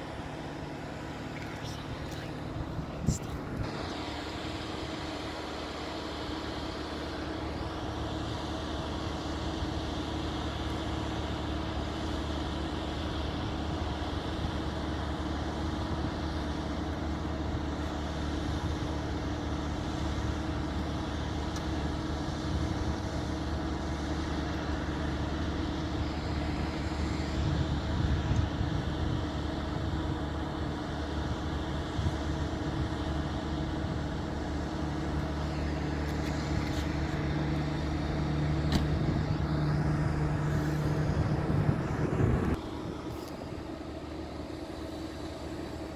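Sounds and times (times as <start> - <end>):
distant propeller plane engine drone: 0.0 - 45.9
outdoor rumble: 0.0 - 45.9.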